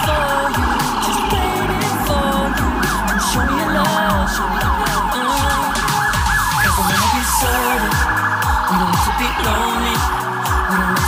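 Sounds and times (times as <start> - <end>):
police siren yelping: 0.0 - 11.0
pop music: 0.0 - 11.0.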